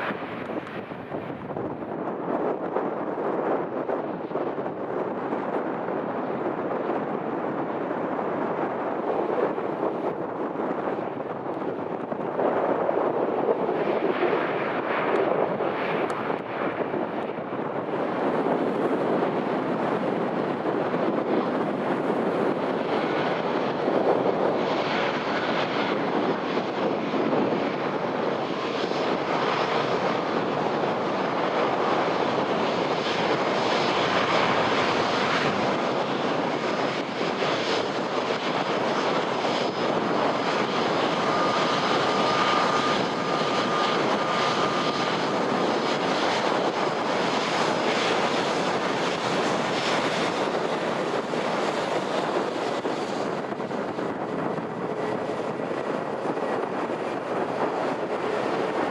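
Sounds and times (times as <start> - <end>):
jet engines running: 0.0 - 58.9
wind buffeting microphone: 0.0 - 58.9.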